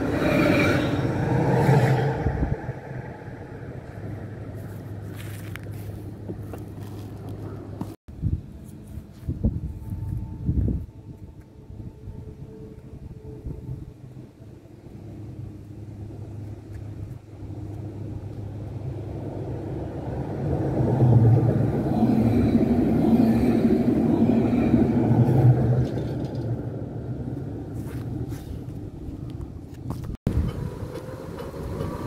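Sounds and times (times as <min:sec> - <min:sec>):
tram passing by: 0:00.0 - 0:32.0.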